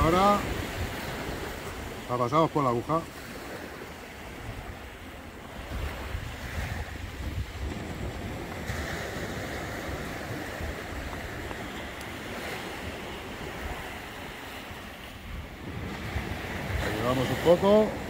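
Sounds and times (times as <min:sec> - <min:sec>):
wind buffeting microphone: 0:00.0 - 0:02.1, 0:03.1 - 0:18.0
waves washing onto beach: 0:00.0 - 0:18.0.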